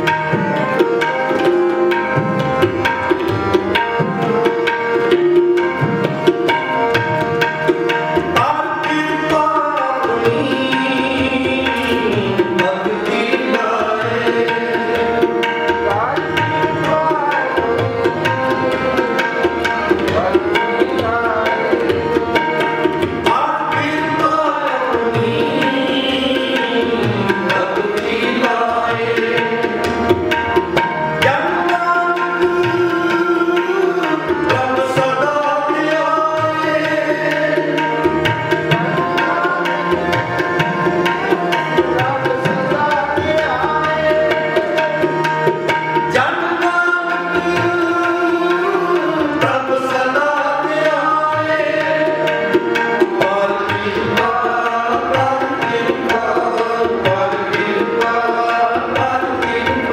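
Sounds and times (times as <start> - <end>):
harmonium melody: 0.0 - 59.9
tabla rhythm: 0.0 - 59.9.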